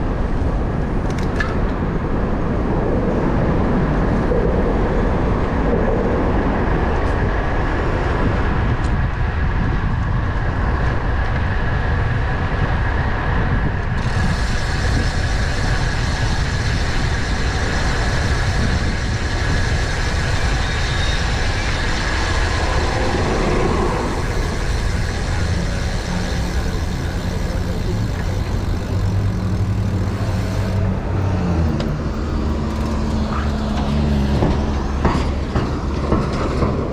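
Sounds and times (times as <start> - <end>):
city traffic noise: 0.0 - 36.9
wind rumbling on microphone: 0.0 - 36.9.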